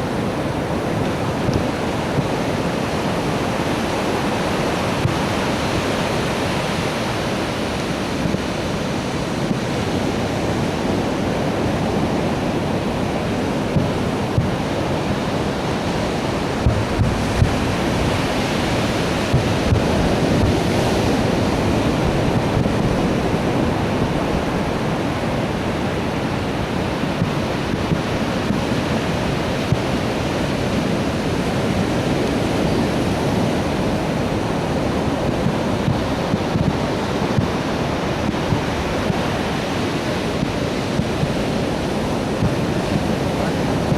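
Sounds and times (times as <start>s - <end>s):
surf: 0.0s - 43.9s
wind on microphone: 0.0s - 43.9s.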